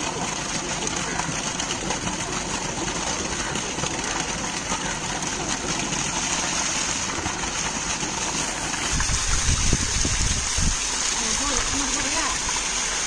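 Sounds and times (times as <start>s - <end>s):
water gushing into tank: 0.0s - 13.0s.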